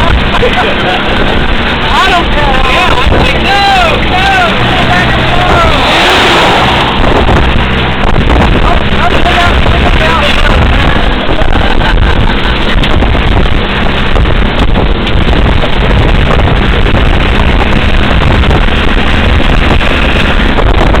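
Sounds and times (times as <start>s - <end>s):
road noise: 0.0s - 21.0s
truck engine running: 0.0s - 21.0s
wind buffeting microphone: 0.0s - 21.0s.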